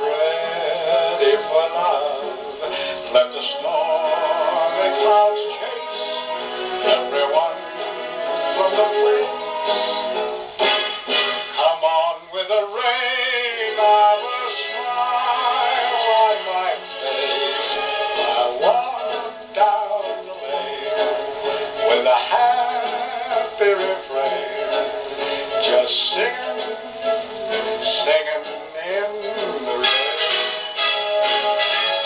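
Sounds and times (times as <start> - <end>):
man singing with vibrato: 0.0 - 32.0
orchestra on old record: 0.0 - 32.0.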